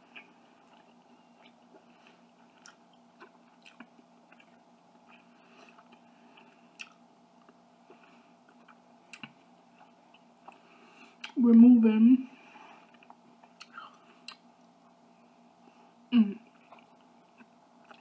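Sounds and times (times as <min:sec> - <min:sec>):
faint chewing: 0:00.0 - 0:11.5, 0:12.4 - 0:15.0, 0:16.4 - 0:18.0.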